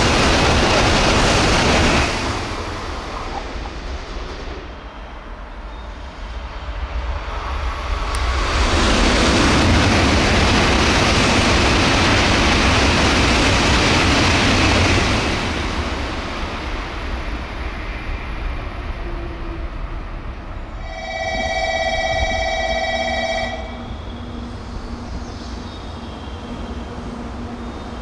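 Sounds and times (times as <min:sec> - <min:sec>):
high-speed train passing: 0:00.0 - 0:28.0.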